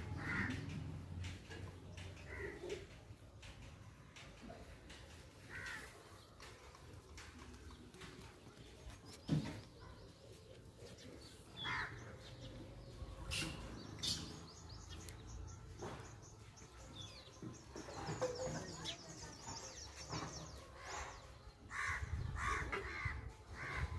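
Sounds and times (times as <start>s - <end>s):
birds calling and chirping: 0.0s - 23.9s.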